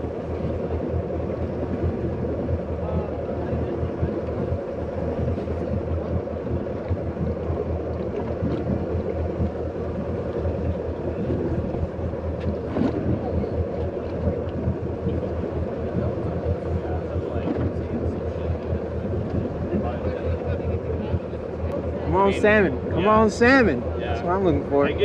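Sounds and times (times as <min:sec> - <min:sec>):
boat motor running: 0:00.0 - 0:25.0.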